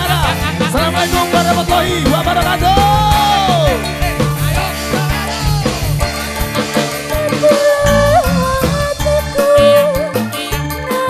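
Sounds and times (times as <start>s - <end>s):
drum kit with cymbals: 0.0s - 11.0s
heavy bass: 0.0s - 11.0s
held melody line: 0.0s - 11.0s.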